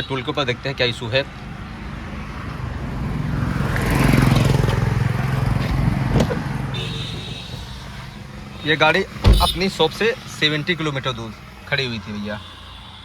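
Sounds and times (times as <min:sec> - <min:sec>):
motor vehicle passing by: 0:01.4 - 0:12.2.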